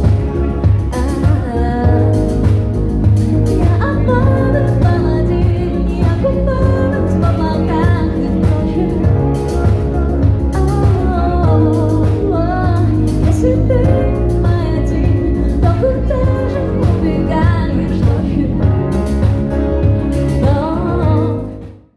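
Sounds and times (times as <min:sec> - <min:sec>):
live band playing: 0:00.0 - 0:21.7
woman singing: 0:00.6 - 0:19.2, 0:20.2 - 0:21.7.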